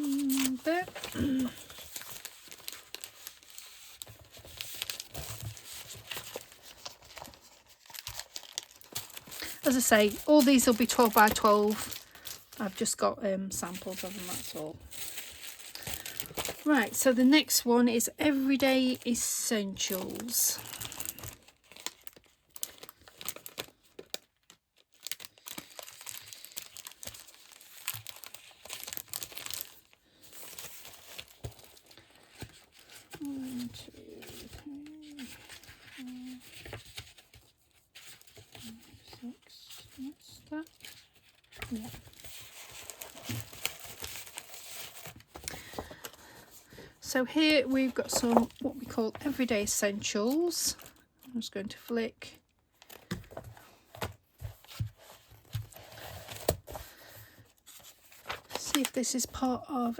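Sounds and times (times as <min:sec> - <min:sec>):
paper rustling and crinkling: 0:00.0 - 0:51.3, 0:52.7 - 0:59.9.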